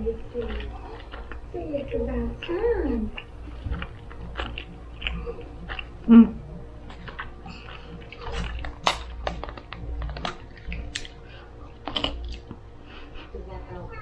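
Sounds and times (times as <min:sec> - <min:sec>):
dialogue: 0:00.0 - 0:14.0
quiet film music: 0:00.0 - 0:14.0
person chewing food: 0:00.3 - 0:01.5, 0:02.4 - 0:13.4.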